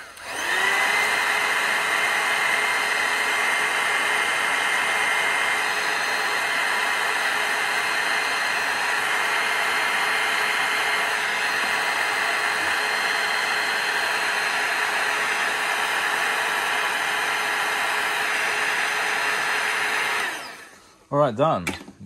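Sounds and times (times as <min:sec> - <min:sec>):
heat gun fan hissing: 0:00.0 - 0:20.9.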